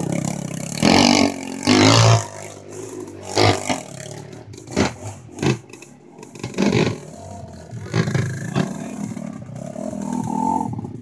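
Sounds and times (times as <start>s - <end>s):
atv engines revving: 0.0s - 11.0s.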